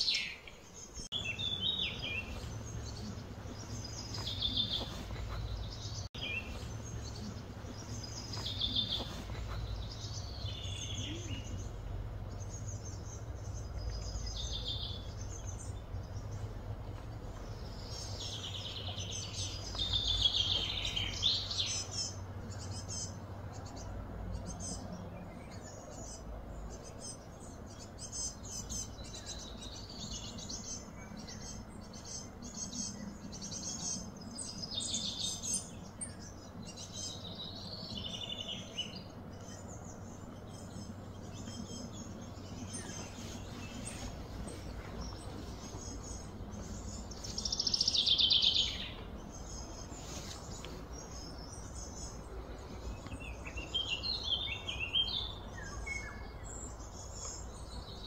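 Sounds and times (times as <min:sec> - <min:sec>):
birds chirping: 0:00.0 - 0:58.0
steady low rumble: 0:00.7 - 0:58.0.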